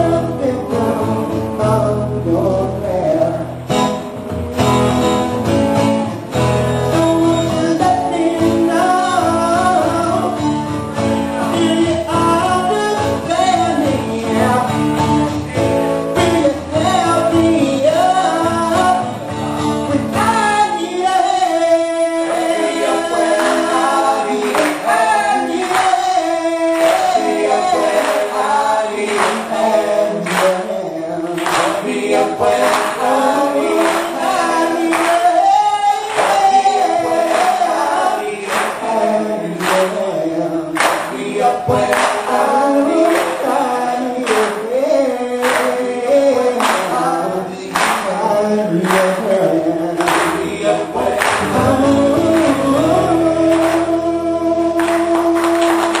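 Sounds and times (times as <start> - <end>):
acoustic guitar: 0.0 - 56.0
backing singers: 0.0 - 56.0
man singing lead: 0.0 - 56.0.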